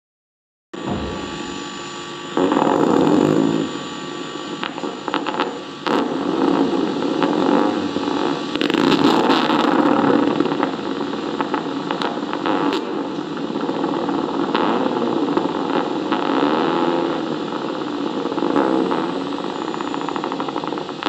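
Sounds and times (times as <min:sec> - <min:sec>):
crackling buzz from loudspeaker: 0:00.8 - 0:21.0.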